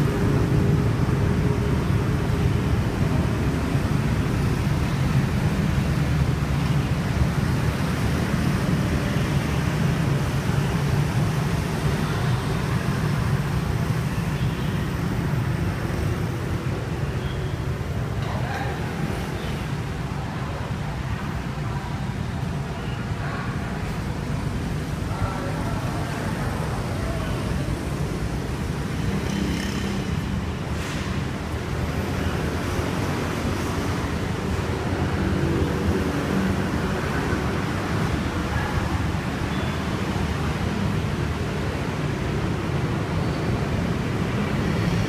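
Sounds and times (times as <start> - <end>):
low rumble of vehicles: 0.0 - 45.0.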